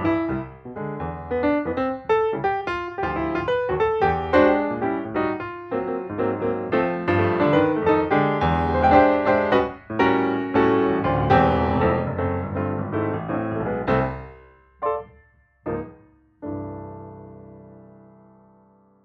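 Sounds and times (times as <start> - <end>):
lively piano music: 0.0 - 19.0.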